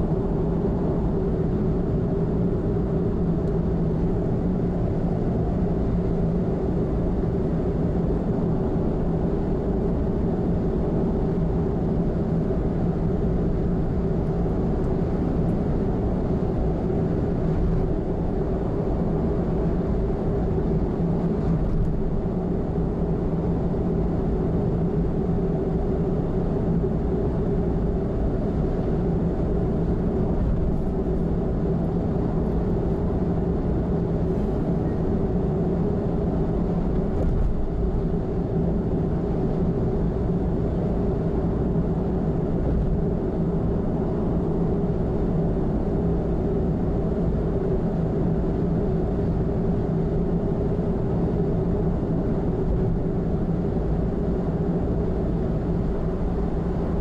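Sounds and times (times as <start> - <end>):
car tyre and engine noise: 0.0 - 57.0.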